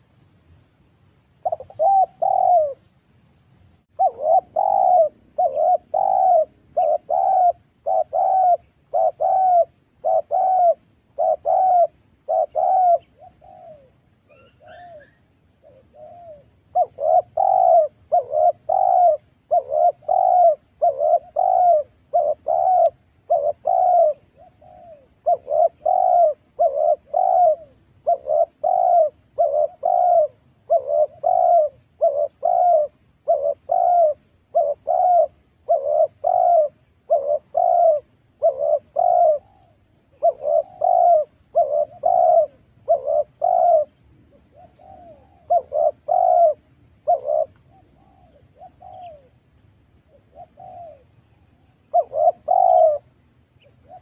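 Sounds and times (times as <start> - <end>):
dove cooing: 1.4 - 3.0, 3.8 - 54.0.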